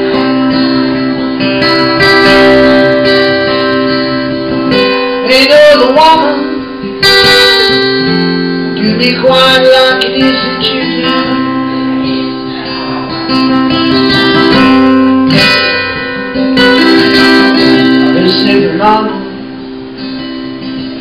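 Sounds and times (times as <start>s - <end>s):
acoustic guitar strumming blues: 0.0s - 21.0s.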